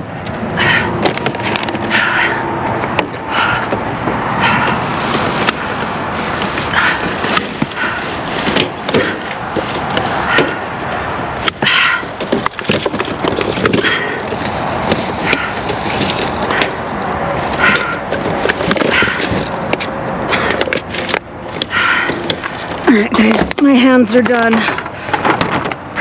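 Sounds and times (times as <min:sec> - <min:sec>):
plastic rustling: 0:04.4 - 0:25.7.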